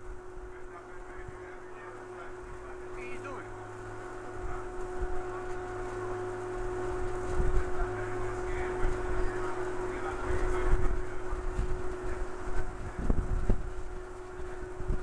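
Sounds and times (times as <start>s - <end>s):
ferry engine drone: 0.0s - 15.0s.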